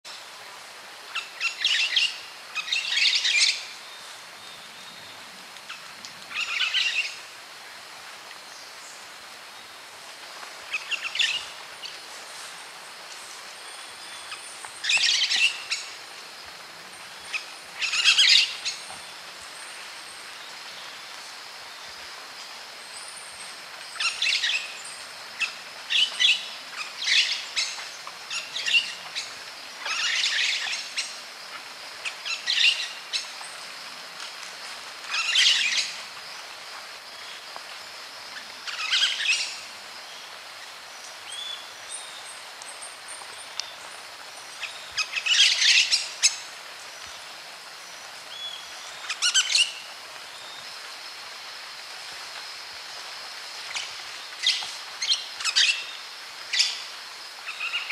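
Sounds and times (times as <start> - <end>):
background hiss: 0.0 - 57.9.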